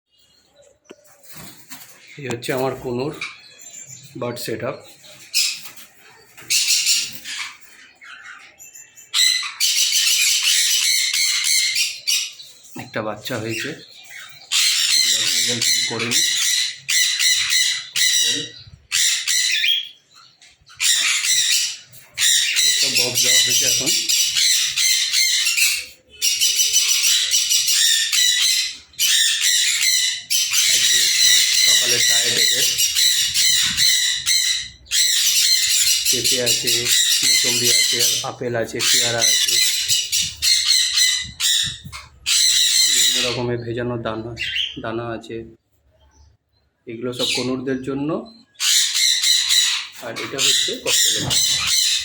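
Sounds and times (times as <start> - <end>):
parrots squawking and screeching: 0.1 - 43.6, 44.3 - 44.8, 47.1 - 47.7, 48.3 - 52.0.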